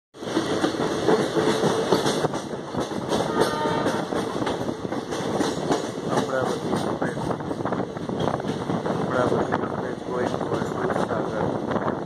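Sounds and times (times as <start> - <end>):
train wheels rattling on track: 0.2 - 12.0.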